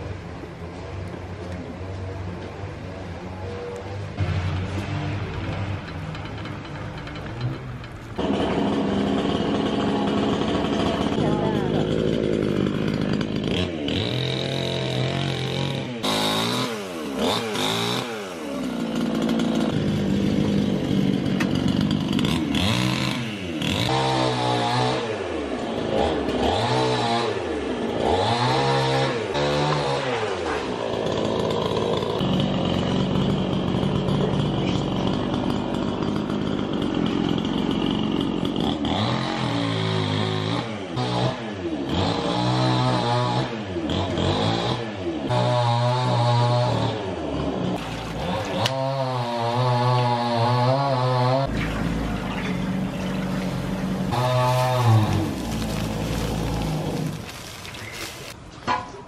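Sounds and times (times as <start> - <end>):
chainsaw cutting branches: 7.4 - 58.4.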